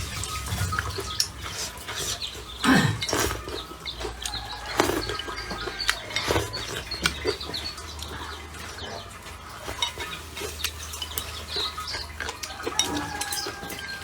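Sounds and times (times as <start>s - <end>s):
chopsticks clinking on bowl: 0.3s - 14.0s.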